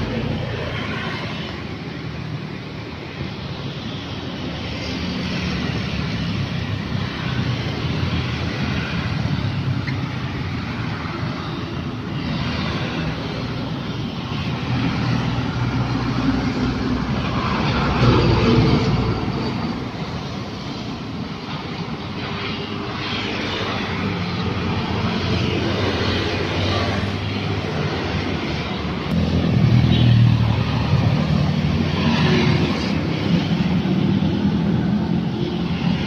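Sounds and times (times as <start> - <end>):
cars passing: 0.0 - 36.0
motorbikes passing: 0.0 - 36.0.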